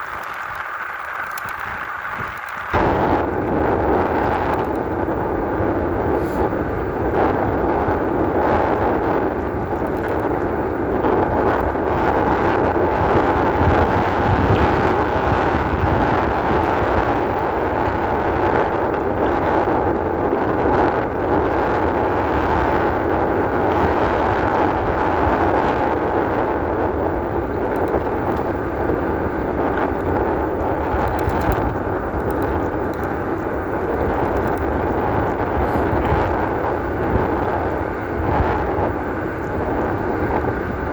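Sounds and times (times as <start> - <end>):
bike rolling over trail: 0.0 - 40.9
wind on microphone: 0.0 - 40.9.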